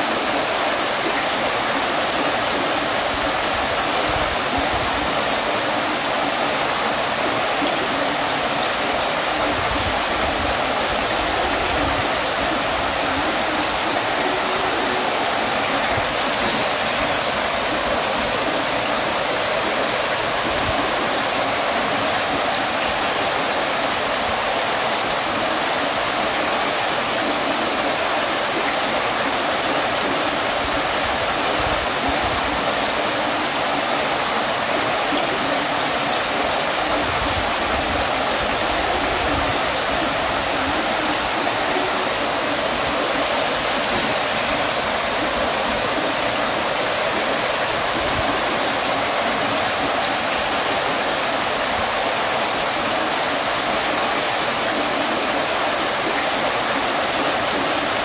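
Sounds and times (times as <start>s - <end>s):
water fountain running: 0.0s - 58.0s.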